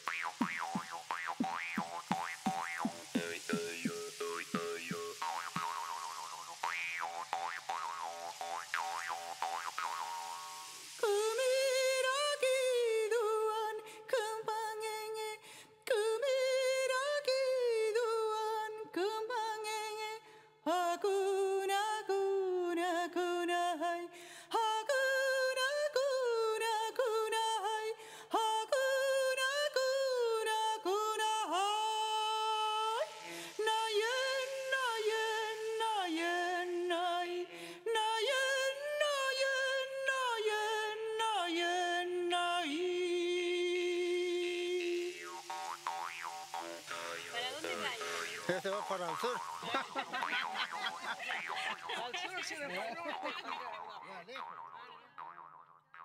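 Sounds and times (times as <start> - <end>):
person singing unaccompanied: 0.0 - 10.2, 10.8 - 54.6.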